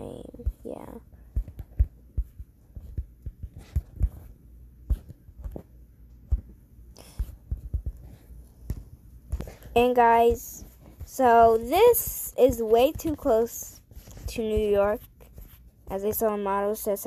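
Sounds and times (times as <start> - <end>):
fingers tapping a smartphone: 0.3 - 16.0.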